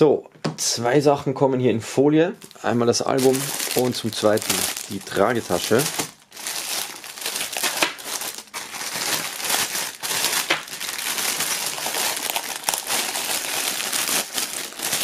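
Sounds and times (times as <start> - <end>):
plastic film crinkling: 2.4 - 15.0.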